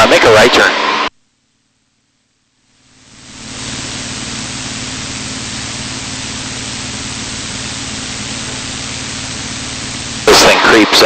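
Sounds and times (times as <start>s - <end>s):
small plane cockpit engine noise: 0.0s - 11.0s.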